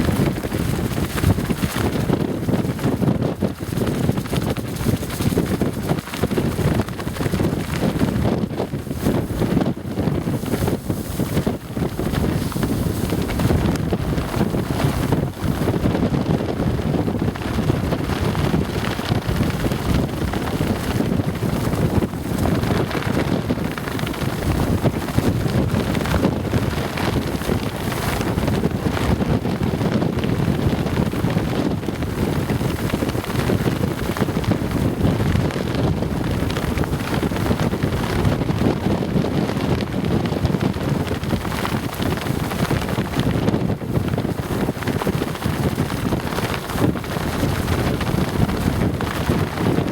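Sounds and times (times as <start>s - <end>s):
pants flapping in wind: 0.0s - 49.9s
wind buffeting microphone: 0.0s - 49.9s.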